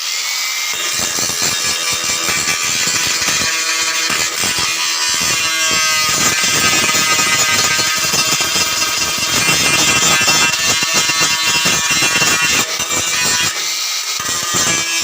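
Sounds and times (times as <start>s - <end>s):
welding arc crackling: 0.7s - 15.0s.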